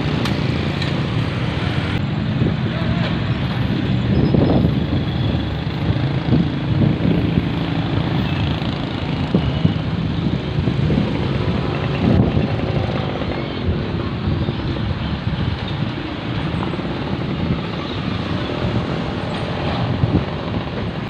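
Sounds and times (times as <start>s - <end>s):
large vehicle engine running: 0.0s - 21.0s
road traffic: 0.0s - 21.0s.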